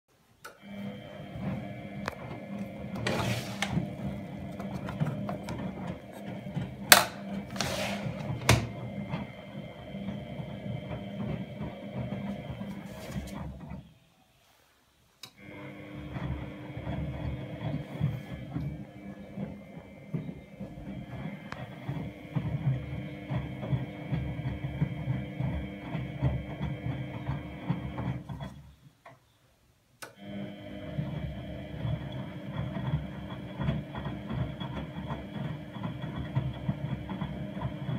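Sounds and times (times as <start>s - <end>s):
washing machine running: 0.4s - 14.0s, 15.3s - 28.8s, 30.0s - 37.9s.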